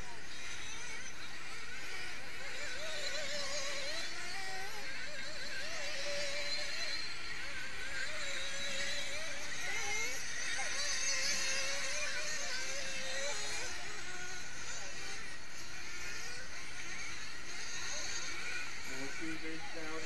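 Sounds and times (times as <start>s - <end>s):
model car engines buzzing: 0.0s - 20.0s.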